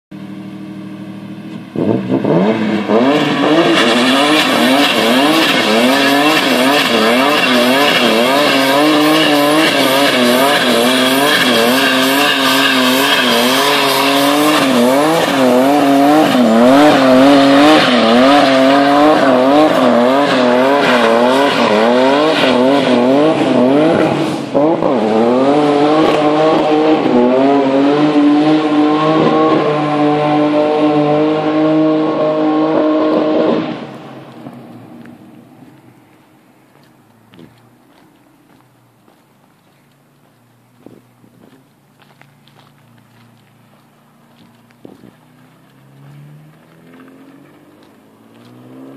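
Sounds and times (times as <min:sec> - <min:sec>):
car engine revving: 0:00.1 - 0:36.8, 0:42.4 - 0:48.9.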